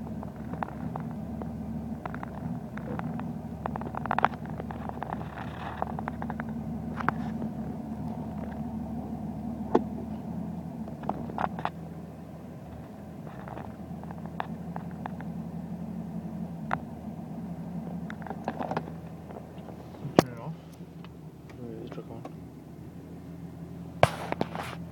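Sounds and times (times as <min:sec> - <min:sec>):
diesel engine rough idle: 0:00.0 - 0:24.9.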